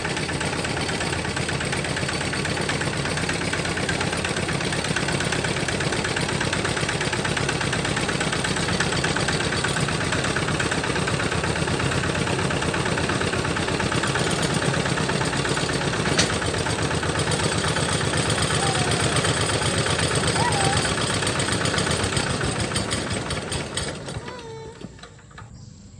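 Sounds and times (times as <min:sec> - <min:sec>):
tractor engine running: 0:00.0 - 0:25.5.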